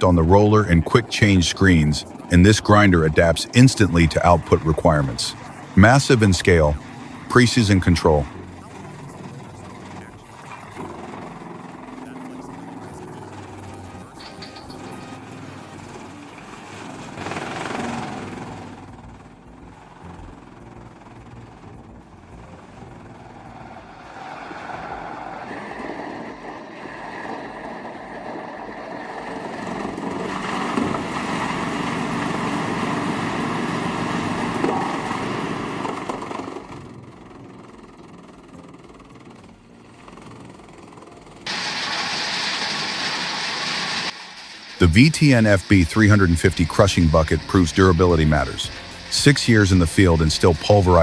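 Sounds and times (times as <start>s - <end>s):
heavy machinery running: 0.0s - 51.0s
high machine whine: 0.0s - 51.0s.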